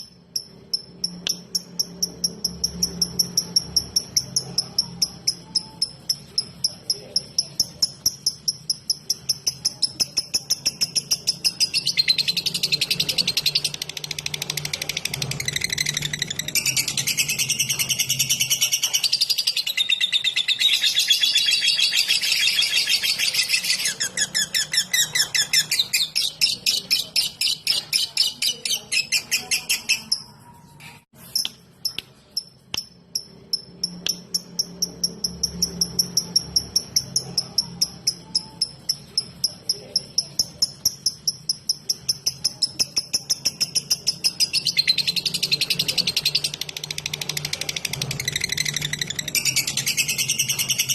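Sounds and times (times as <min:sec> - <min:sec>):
rapid sharp ticking bird notes: 0:00.0 - 0:30.4, 0:31.2 - 0:50.9
lovebird chattering: 0:00.0 - 0:30.6, 0:31.2 - 0:50.9.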